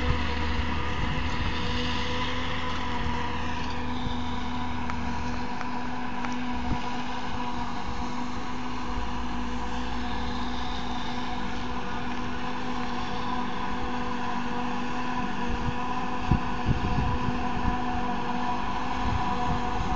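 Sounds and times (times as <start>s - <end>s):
forage harvester machinery drone: 0.0s - 19.9s.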